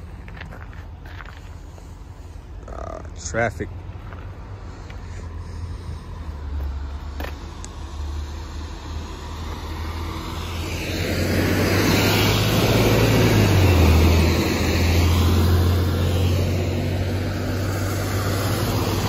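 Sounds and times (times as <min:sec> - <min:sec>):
truck passing: 0:00.0 - 0:19.0
tyres hissing on wet road: 0:01.2 - 0:03.4, 0:04.4 - 0:19.0.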